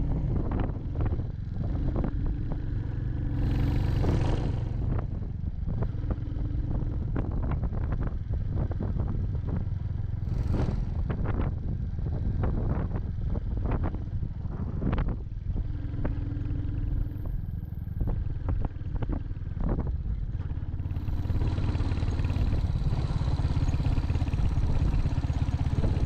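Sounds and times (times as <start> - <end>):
knocks and clatter over rough road: 0.0 - 26.0
motorcycle engine running: 0.0 - 26.0.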